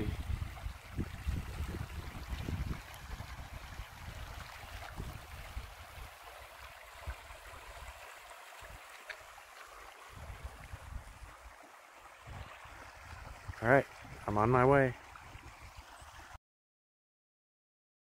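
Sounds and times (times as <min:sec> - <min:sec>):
creek water rushing: 0:00.0 - 0:16.4.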